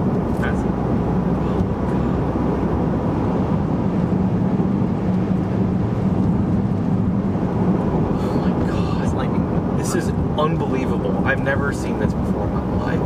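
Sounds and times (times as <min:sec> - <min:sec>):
car road noise at highway speed: 0:00.0 - 0:13.0.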